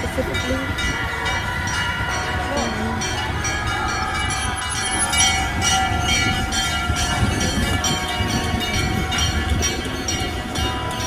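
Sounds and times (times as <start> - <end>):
overlapping sustained tones: 0.0 - 11.0
wind noise: 0.0 - 11.0.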